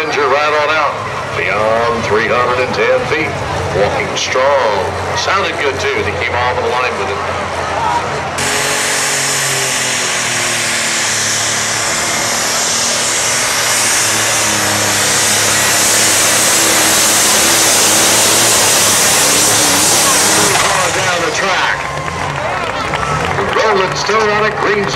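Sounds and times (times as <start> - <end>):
tractor engine roaring under load: 0.0 - 24.9.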